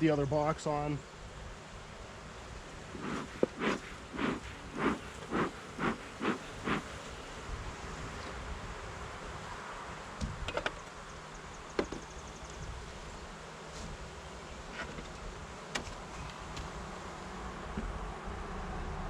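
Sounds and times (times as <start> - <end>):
honeybees buzzing: 1.6 - 10.2, 10.9 - 18.5.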